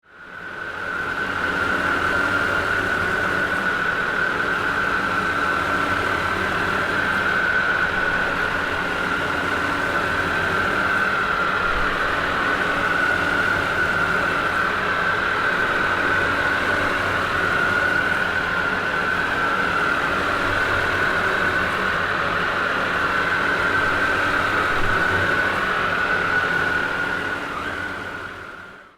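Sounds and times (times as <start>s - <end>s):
helicopter rotor drone: 0.0s - 28.9s
helicopter turbine whine: 0.1s - 28.9s.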